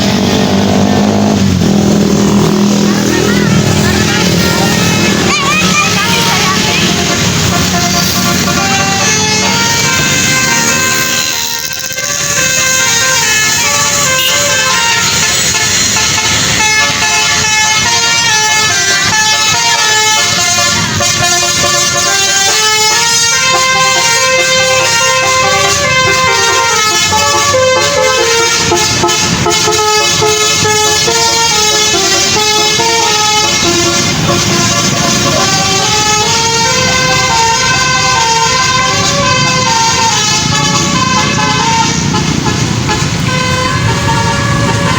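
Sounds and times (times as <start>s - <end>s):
bus musical horn playing melody: 0.0s - 44.9s.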